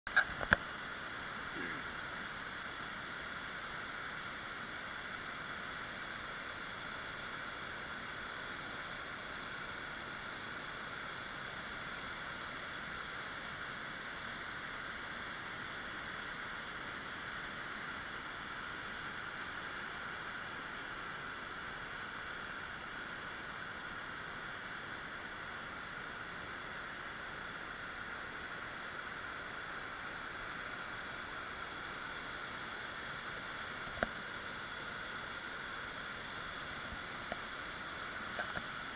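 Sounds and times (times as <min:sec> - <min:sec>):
water rushing over rapids: 0:00.1 - 0:38.9.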